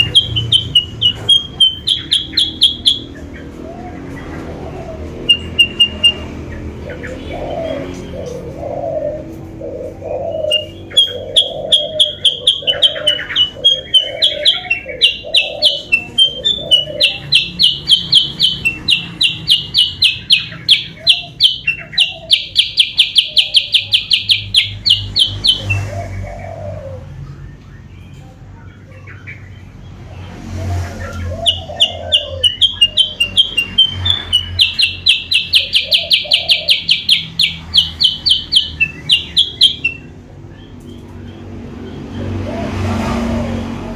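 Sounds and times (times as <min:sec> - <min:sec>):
bird high chirps: 0:00.0 - 0:08.6, 0:09.8 - 0:26.4, 0:30.9 - 0:42.1.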